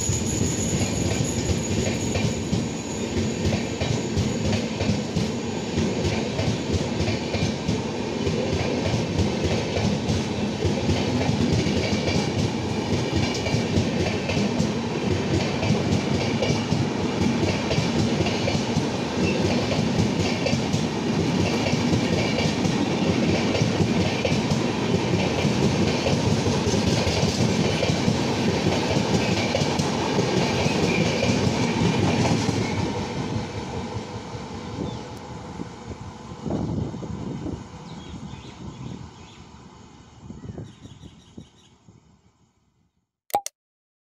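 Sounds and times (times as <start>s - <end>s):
train rolling past: 0.0s - 40.6s.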